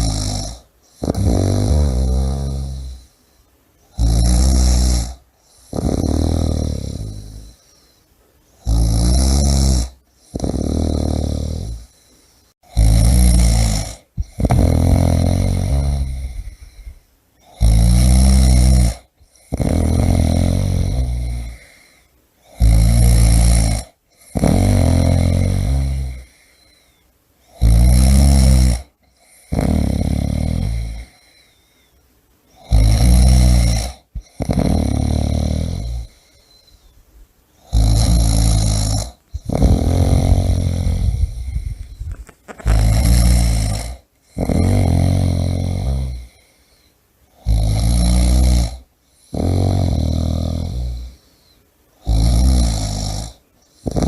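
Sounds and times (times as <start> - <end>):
person snoring loudly: 0.0 - 3.1, 3.9 - 7.6, 8.6 - 12.0, 12.6 - 26.8, 27.5 - 31.5, 32.6 - 36.6, 37.6 - 46.6, 47.3 - 51.3, 52.0 - 54.0.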